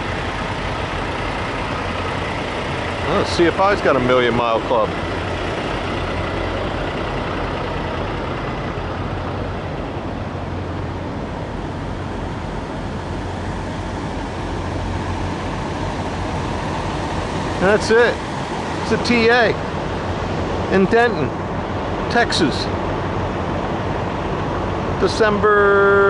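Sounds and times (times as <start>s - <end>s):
wash of noise: 0.0s - 25.5s
diesel trucks idling: 0.0s - 26.0s.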